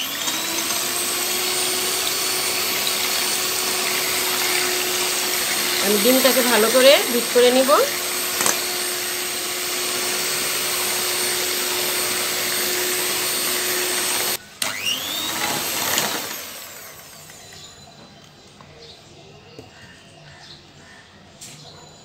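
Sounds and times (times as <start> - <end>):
electric hand mixer humming: 0.0 - 17.8.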